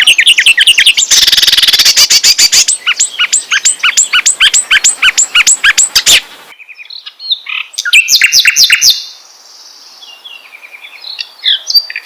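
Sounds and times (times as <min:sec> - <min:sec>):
faint bird twittering: 0:00.0 - 0:12.0
songbird chirping: 0:00.0 - 0:12.0.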